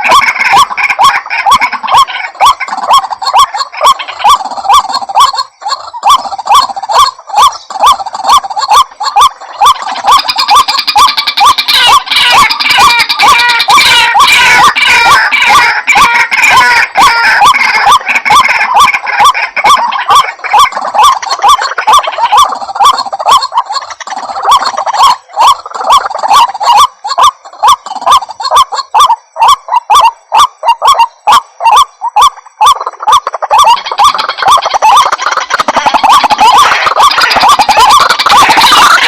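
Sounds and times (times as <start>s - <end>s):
waterhen croaking calls: 0.0s - 39.0s.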